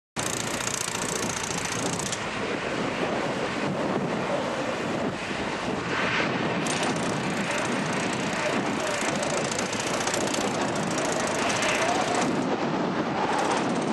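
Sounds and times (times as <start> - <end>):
jet engines running: 0.2 - 13.9
wind on microphone: 0.2 - 13.9.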